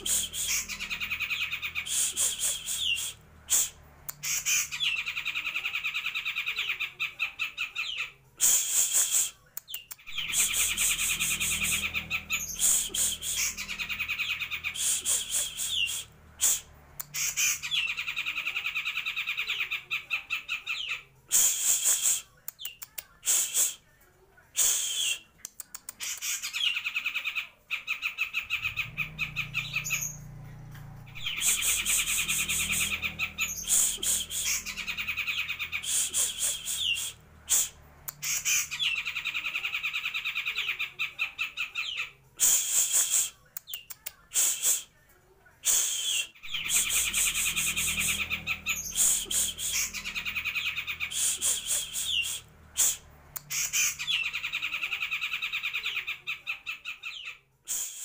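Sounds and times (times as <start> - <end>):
bird singing fast trills: 0.0 - 8.1, 9.7 - 21.0, 26.0 - 42.1, 46.0 - 58.0.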